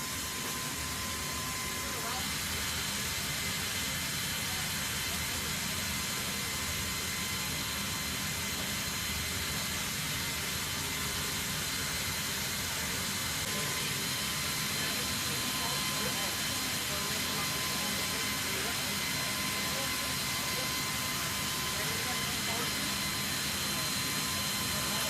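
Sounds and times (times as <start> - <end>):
jet engine rushing hiss: 0.0 - 25.0.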